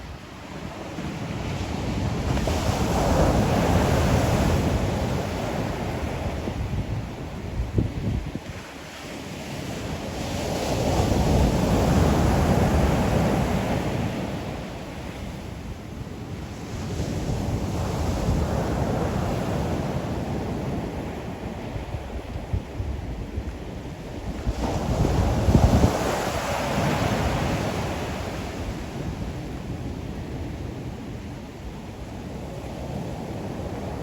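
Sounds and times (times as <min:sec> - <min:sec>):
wind buffeting microphone: 0:00.0 - 0:32.1.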